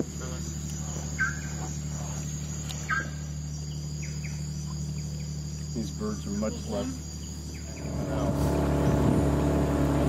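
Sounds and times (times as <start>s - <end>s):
nighthawks calling: 0.0s - 9.0s
high-pitched insect drone: 0.0s - 9.5s
steady low hum: 0.0s - 10.0s.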